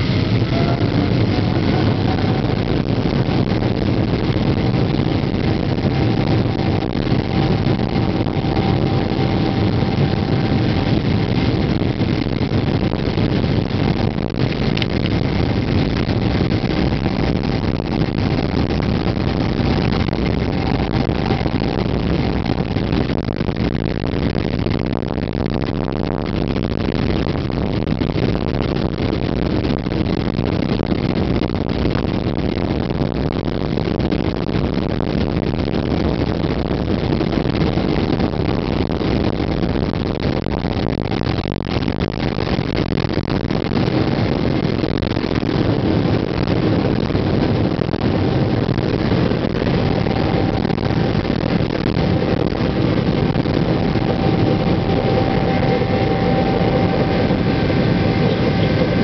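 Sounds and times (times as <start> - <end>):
faint steady whine: 0.0 - 59.0
jet engines deep rumble: 0.0 - 59.0.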